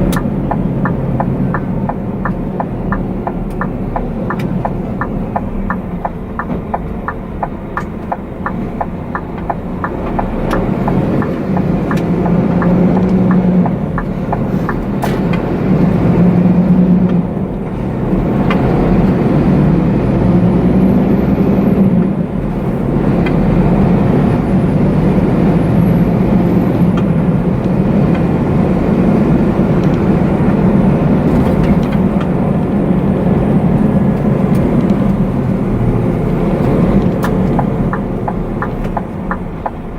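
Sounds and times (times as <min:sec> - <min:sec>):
truck engine while driving: 0:00.0 - 0:39.9.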